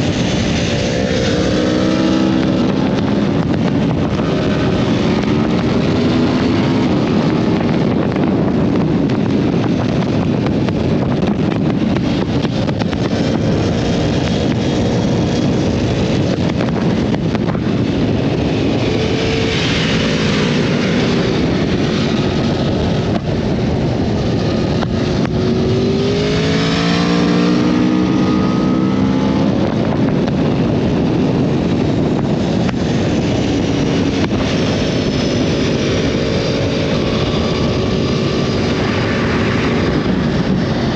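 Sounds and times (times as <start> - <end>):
motorcycle engine revving: 0.0 - 40.9
wind rush on microphone: 0.0 - 40.9.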